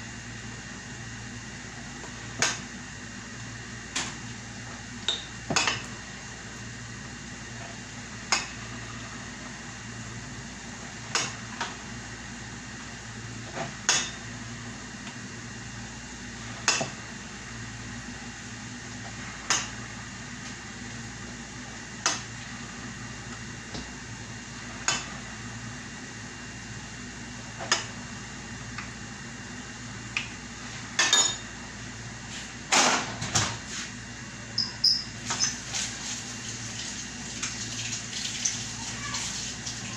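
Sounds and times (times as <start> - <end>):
steady low hum: 0.0 - 37.5.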